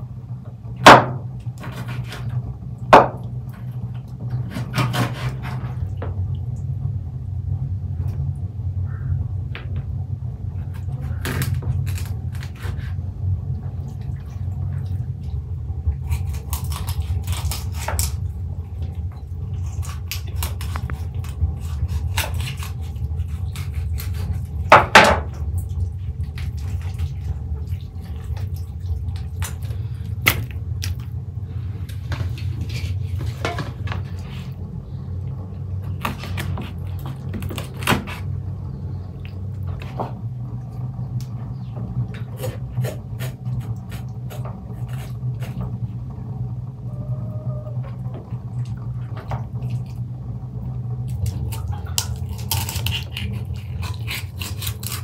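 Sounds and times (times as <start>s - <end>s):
low rumble: 5.6s - 54.2s.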